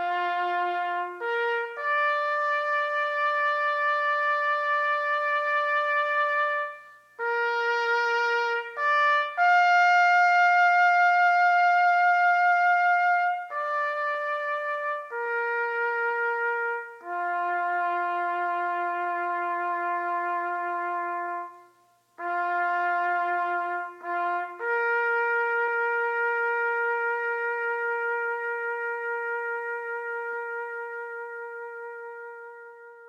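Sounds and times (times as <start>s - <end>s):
brass horn long held notes: 0.0s - 33.0s.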